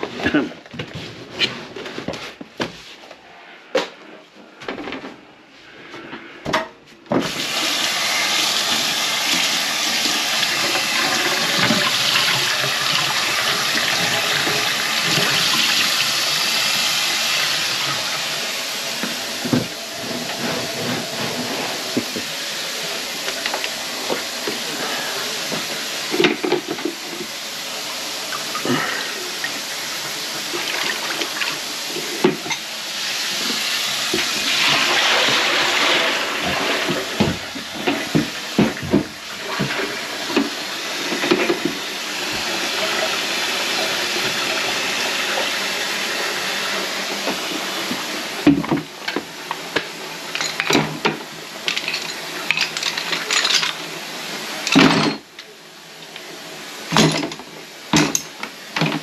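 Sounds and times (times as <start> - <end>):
tap water running into sink: 7.2 - 54.9.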